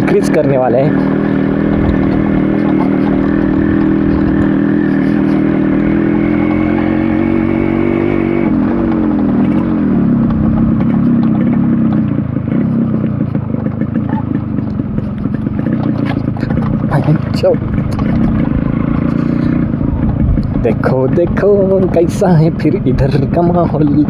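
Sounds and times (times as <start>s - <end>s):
two-stroke motorcycle engine: 0.0s - 24.0s.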